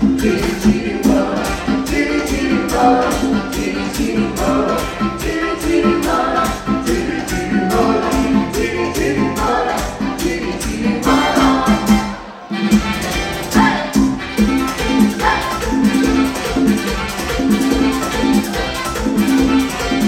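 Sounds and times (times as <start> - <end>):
live latin dance band: 0.0 - 20.0.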